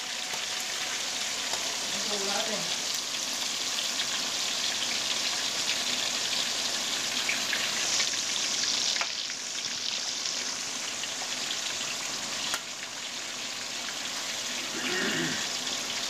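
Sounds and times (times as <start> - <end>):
fish frying with sizzling pops: 0.0 - 16.0.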